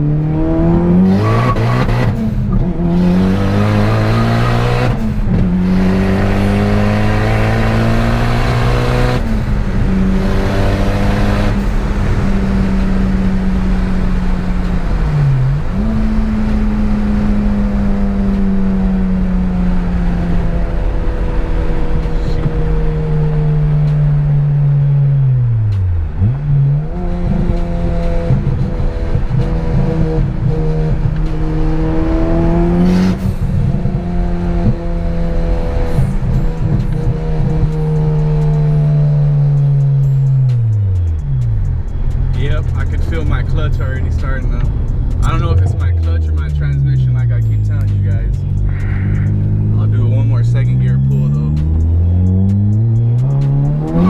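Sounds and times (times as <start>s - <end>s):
car engine accelerating through gears: 0.0s - 54.0s.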